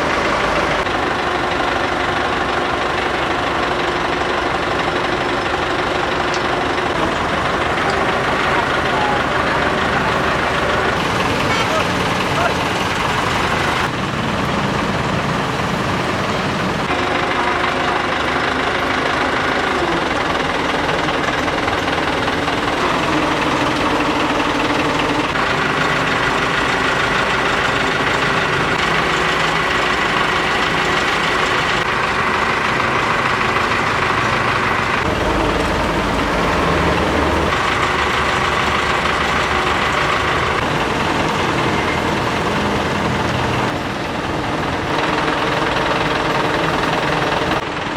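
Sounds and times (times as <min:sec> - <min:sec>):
excavator diesel engine running: 0:00.0 - 0:47.9
hydraulic whining: 0:00.0 - 0:47.9.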